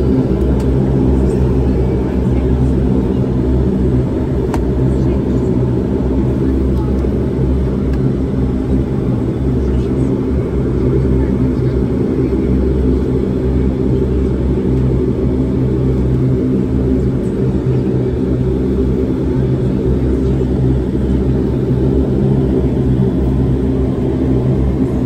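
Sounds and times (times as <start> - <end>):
turboprop engine drone in cabin: 0.0 - 25.0.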